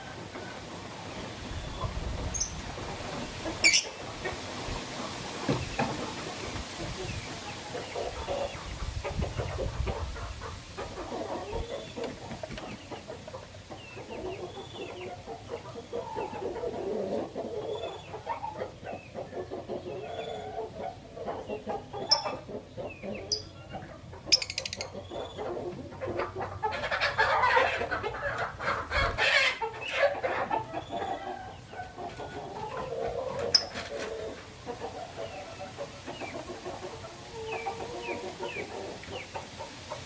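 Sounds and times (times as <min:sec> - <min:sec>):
birds chirping and clucking: 0:00.0 - 0:40.0.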